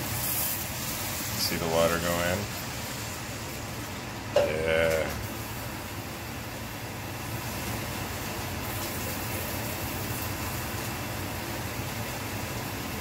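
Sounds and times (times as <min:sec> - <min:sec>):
pan hissing on stovetop: 0:00.0 - 0:13.0.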